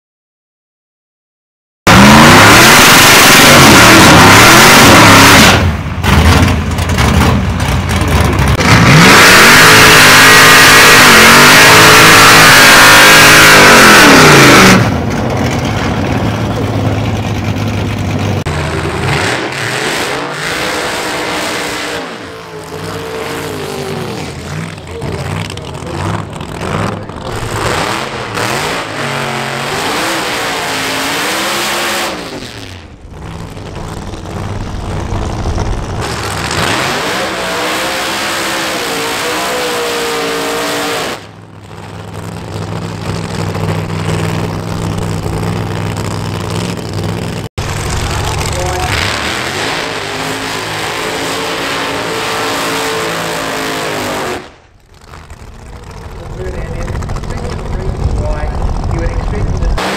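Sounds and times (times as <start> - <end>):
drag car engines revving: 1.9 - 59.9.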